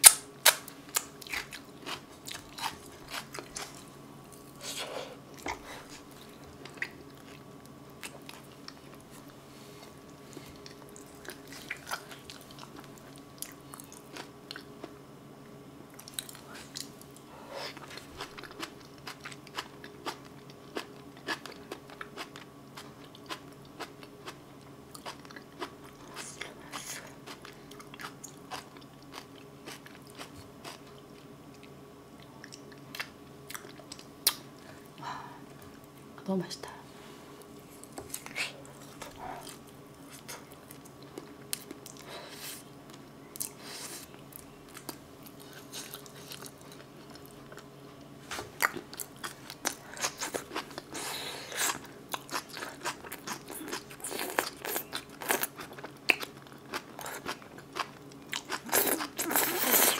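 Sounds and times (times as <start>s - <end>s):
person chewing with wet clicks: 0.0s - 4.6s, 5.3s - 9.4s, 10.0s - 15.0s, 15.9s - 35.0s, 37.8s - 42.1s, 42.8s - 59.9s
faint electrical hum: 0.0s - 59.9s.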